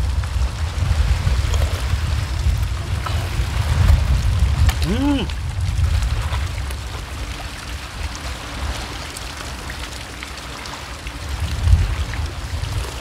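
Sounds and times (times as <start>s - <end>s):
water washing among rocks: 0.0s - 13.0s
wind rumble on microphone: 0.0s - 13.0s.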